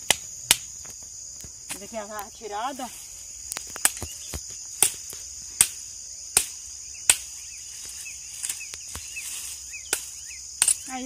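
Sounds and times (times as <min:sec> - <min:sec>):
dry branches snapping: 0:00.0 - 0:02.3, 0:03.4 - 0:11.0
insects chirring: 0:00.0 - 0:11.0.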